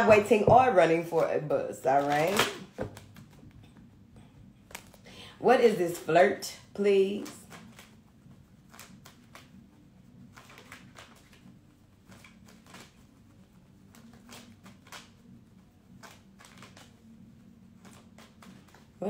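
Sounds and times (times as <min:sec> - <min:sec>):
cards being shuffled: 0:00.1 - 0:03.6, 0:04.6 - 0:05.1, 0:06.9 - 0:19.0.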